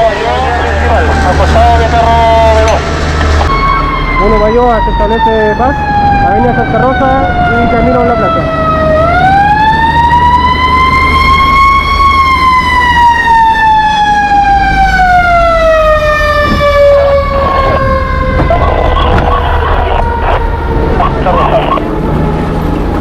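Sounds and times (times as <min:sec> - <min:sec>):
fire engine siren wailing: 0:00.0 - 0:23.0
low engine rumble: 0:00.0 - 0:23.0.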